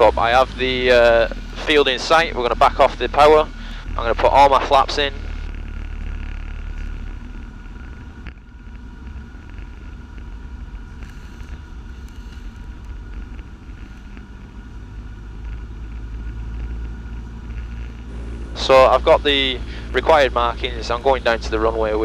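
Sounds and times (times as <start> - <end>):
faint high whine: 0.0 - 22.0
propeller plane engine droning: 0.0 - 22.0.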